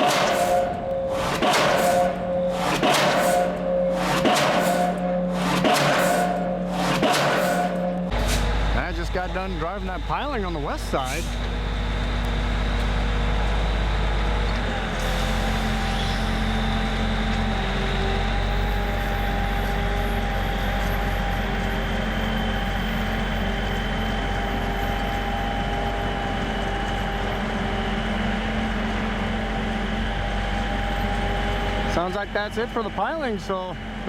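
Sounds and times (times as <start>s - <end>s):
vehicle engine drone: 0.0s - 34.0s.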